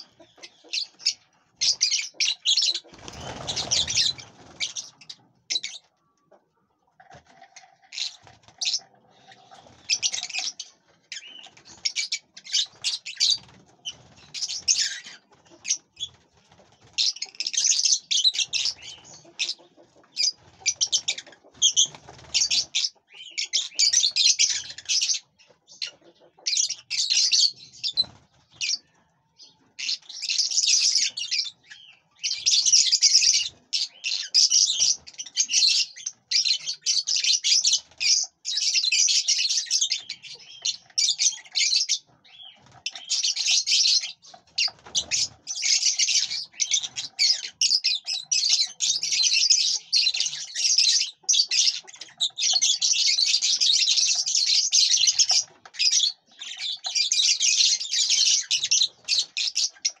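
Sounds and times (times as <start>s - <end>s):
lovebirds chattering: 0.0s - 60.0s.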